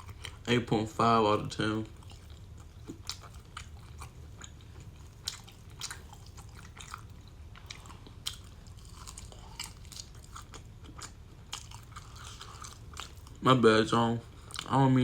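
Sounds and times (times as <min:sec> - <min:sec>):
chewing with wet mouth smacking: 0:00.0 - 0:00.6, 0:01.3 - 0:15.0.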